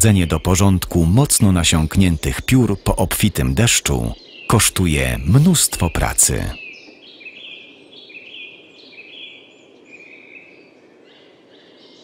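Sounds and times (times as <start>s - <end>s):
soft outdoor hiss: 0.0s - 12.0s
songbird singing repeated notes: 0.0s - 12.0s.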